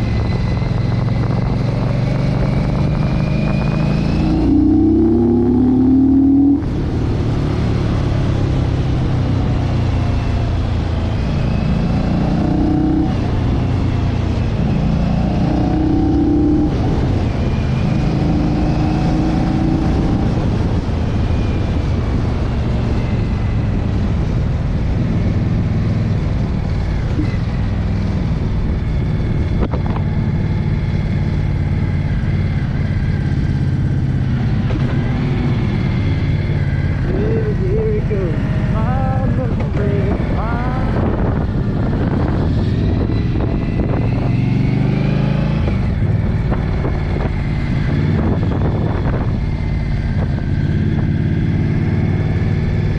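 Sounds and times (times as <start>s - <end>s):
motorcycle engine running: 0.0s - 15.3s, 20.2s - 44.8s, 45.6s - 52.9s
wind and road noise: 0.0s - 52.9s.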